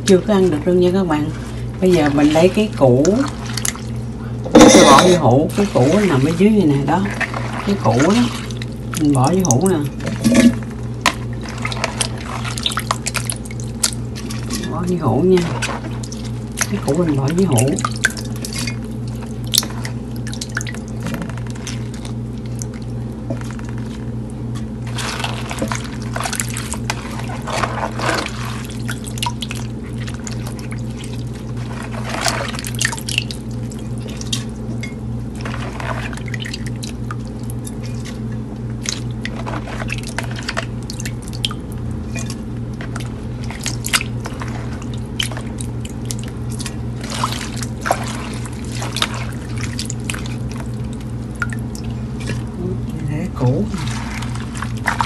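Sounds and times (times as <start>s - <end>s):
hands sloshing in brine: 0.0s - 52.6s, 53.4s - 55.0s
steady low hum: 0.0s - 55.0s
water splashing and dripping: 1.5s - 4.0s, 5.5s - 10.5s, 11.2s - 24.1s, 24.9s - 34.5s, 35.4s - 52.5s.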